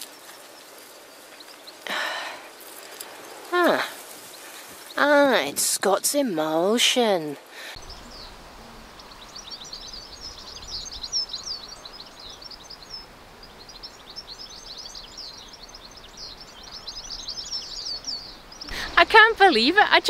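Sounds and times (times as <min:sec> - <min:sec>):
small birds twittering: 0:00.0 - 0:05.5, 0:06.6 - 0:20.0
faint outdoor background noise: 0:00.0 - 0:20.0.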